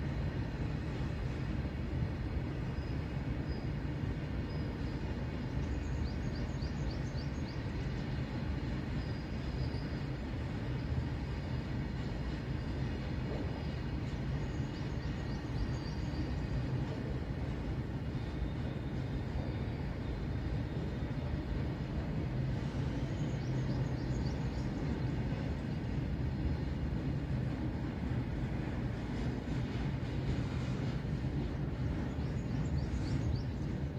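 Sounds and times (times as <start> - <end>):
freight train wheels rumbling: 0.0 - 33.9.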